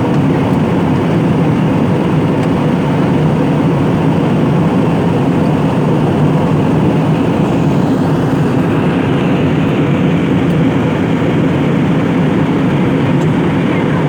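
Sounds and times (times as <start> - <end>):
airliner engine and airflow noise: 0.0 - 14.0.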